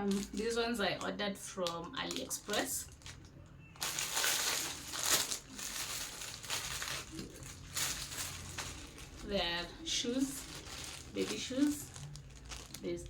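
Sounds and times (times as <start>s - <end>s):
packaging rustling and crackling: 0.0s - 13.0s.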